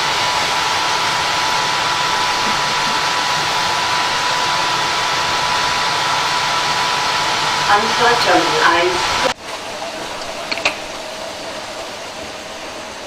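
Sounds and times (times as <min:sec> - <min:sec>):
thin high whine: 0:00.0 - 0:13.0
train rushing noise: 0:00.0 - 0:13.0.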